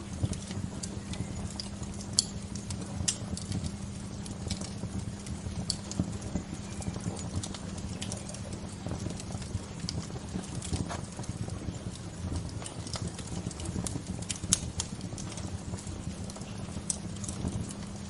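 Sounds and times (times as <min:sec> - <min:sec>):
wood fire crackling: 0:00.0 - 0:18.0
sharp pops and snaps: 0:00.1 - 0:18.0.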